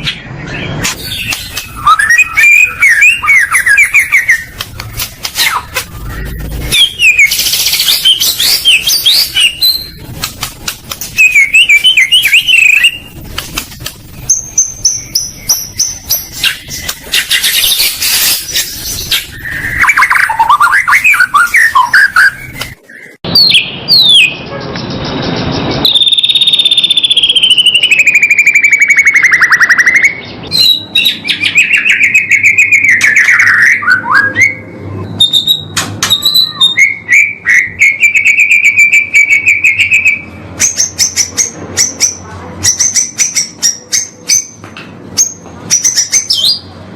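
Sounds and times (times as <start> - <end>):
songbird whistles and trills: 0.0 - 10.0, 11.1 - 13.2, 14.2 - 24.5, 25.2 - 44.6.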